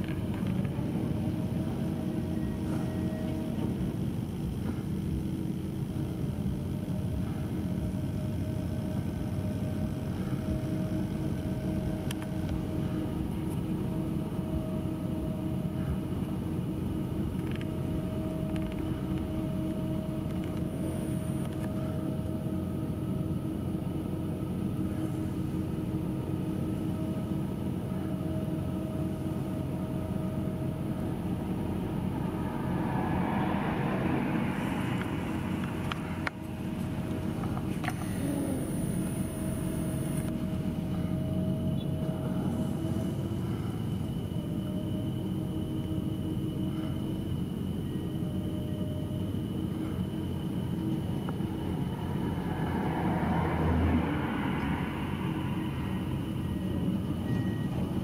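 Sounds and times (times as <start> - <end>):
excavator diesel engine and hydraulics: 0.0 - 58.0
road traffic noise: 0.0 - 58.0.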